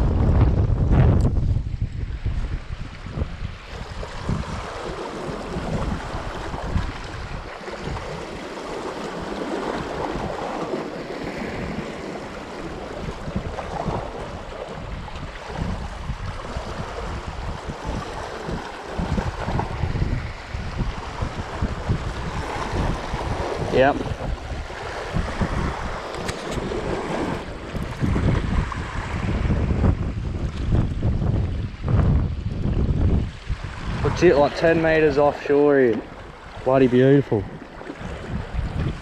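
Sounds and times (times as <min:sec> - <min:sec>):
wind buffeting microphone: 0:00.0 - 0:39.0
waves washing against rocks: 0:02.2 - 0:39.0.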